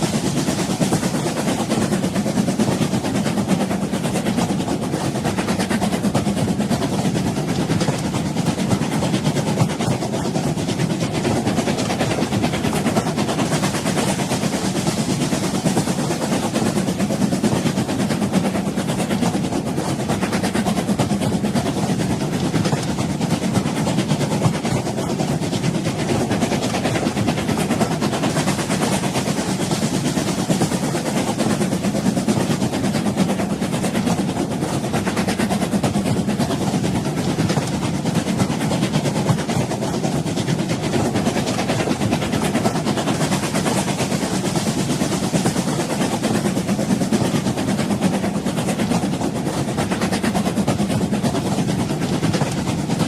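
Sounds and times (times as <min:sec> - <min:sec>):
train rumbling and rattling on rails: 0:00.0 - 0:53.0.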